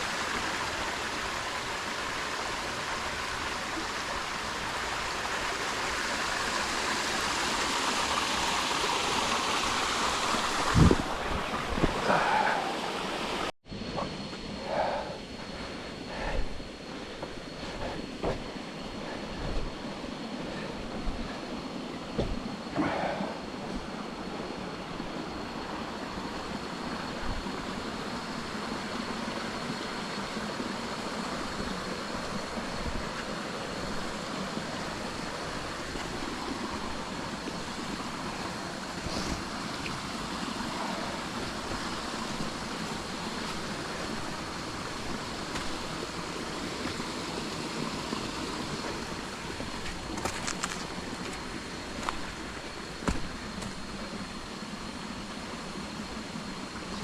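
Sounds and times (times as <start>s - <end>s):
creek water rushing: 0.0s - 13.5s, 14.4s - 57.0s.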